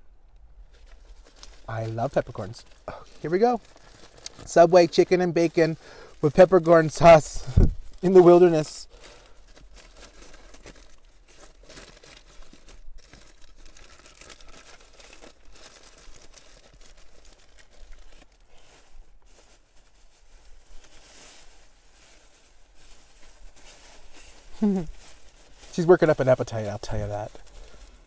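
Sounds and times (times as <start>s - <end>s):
wrapping paper crinkling: 0.7s - 28.0s.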